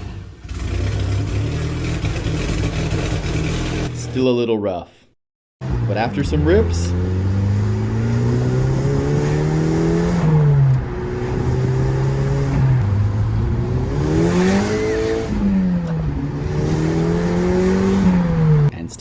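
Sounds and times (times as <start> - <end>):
car engine revving: 0.0 - 4.2, 5.6 - 18.7.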